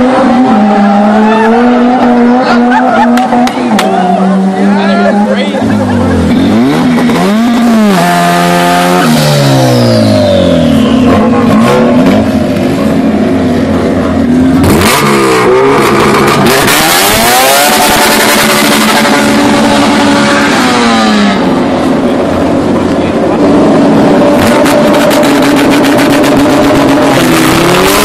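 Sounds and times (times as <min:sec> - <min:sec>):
car engines revving and accelerating: 0:00.0 - 0:28.0.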